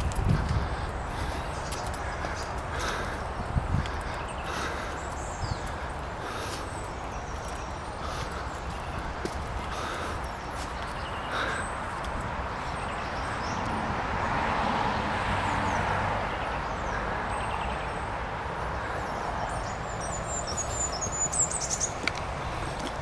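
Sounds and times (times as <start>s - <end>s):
small birds chirping: 0.0s - 13.7s, 15.4s - 23.0s.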